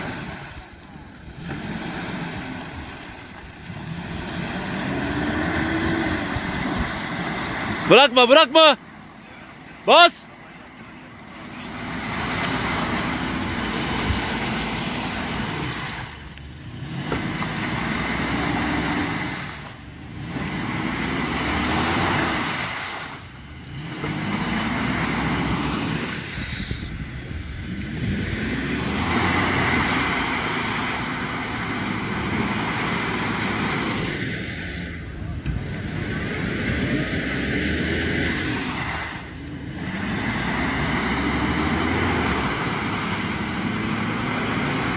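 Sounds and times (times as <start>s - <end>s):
tyres churning mud and water: 0.0s - 44.9s
engine revving hard: 1.2s - 8.8s, 11.2s - 44.9s.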